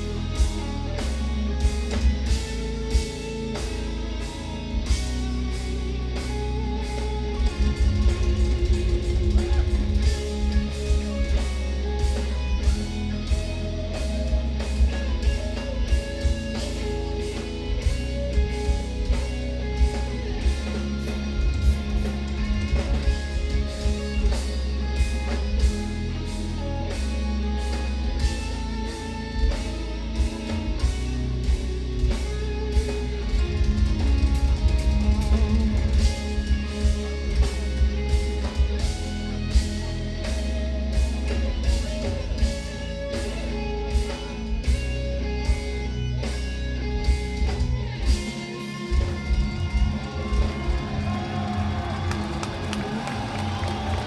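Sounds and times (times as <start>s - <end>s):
busy drumming: 0.0s - 45.8s, 46.4s - 54.0s
heavy electric guitar riffs: 0.0s - 54.0s.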